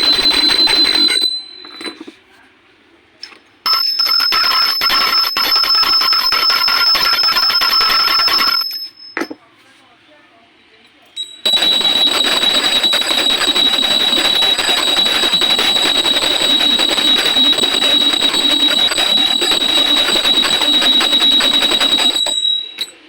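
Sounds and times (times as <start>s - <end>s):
brass bell ringing rapidly: 0.0s - 2.0s, 3.7s - 9.0s, 11.4s - 23.0s.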